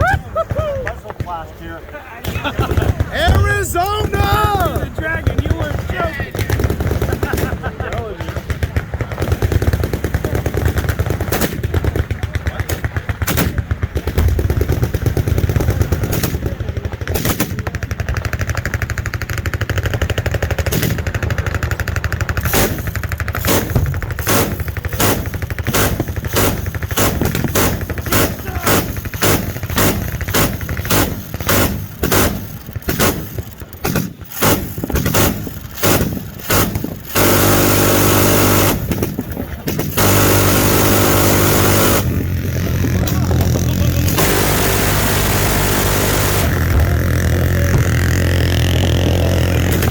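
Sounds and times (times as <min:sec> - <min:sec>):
loud continuous noise: 0:00.0 - 0:49.9
automatic gunfire: 0:02.3 - 0:42.4, 0:44.0 - 0:47.0.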